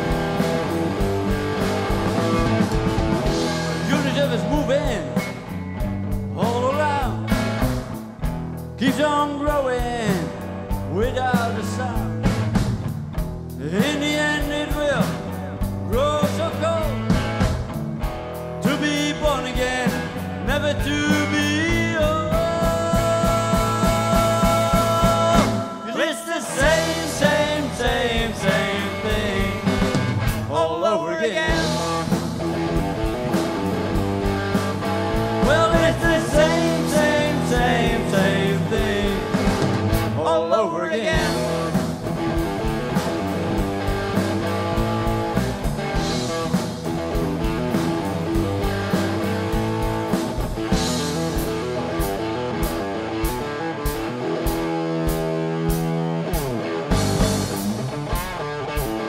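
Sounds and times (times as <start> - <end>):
steady drum beat: 0.0 - 30.6, 31.5 - 40.2, 41.1 - 59.0
electric guitar lead: 0.0 - 59.0.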